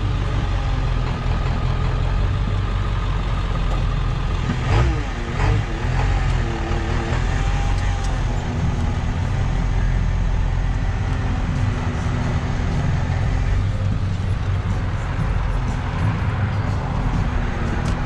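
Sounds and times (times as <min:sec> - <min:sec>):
pickup truck engine rumble: 0:00.0 - 0:18.0
road noise: 0:00.0 - 0:18.0.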